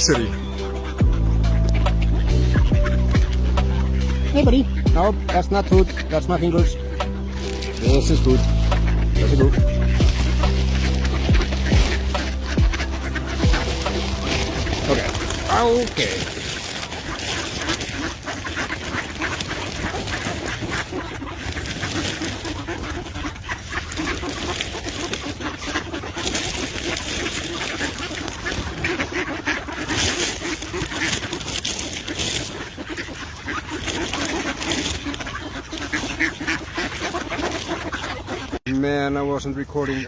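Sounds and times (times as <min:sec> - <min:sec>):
ducks quacking: 0:00.0 - 0:40.0.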